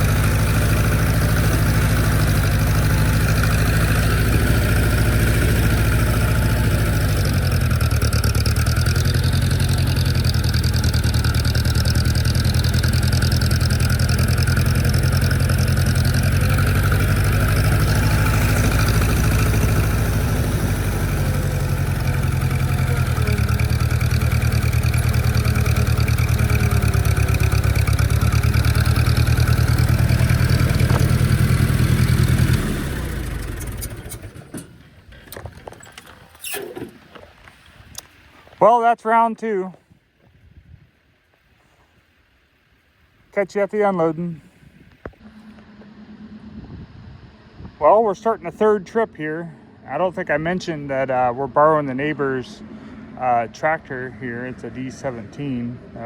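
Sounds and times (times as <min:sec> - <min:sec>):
tractor engine running: 0:00.0 - 0:39.7, 0:41.2 - 0:56.0.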